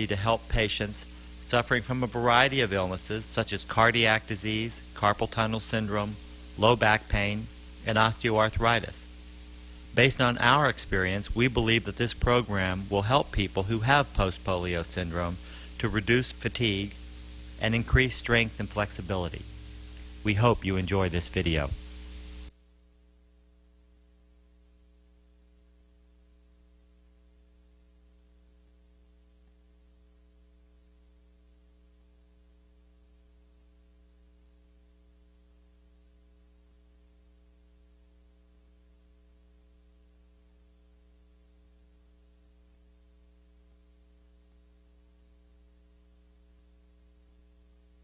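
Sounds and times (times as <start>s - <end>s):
faint mains hum: 0.0s - 48.0s
recording hiss: 0.0s - 48.0s.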